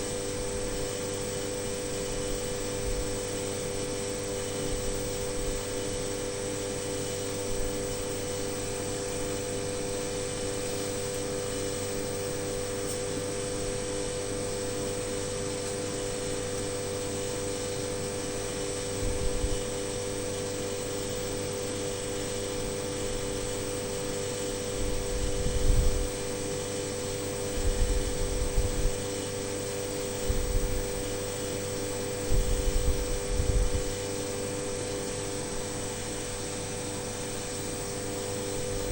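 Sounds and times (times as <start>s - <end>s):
machine hum with steady tones: 0.0s - 38.9s.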